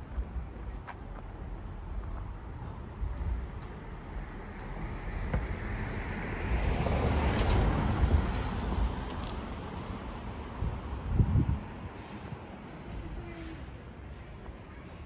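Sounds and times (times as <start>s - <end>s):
wind rumble on microphone: 0.0s - 13.7s.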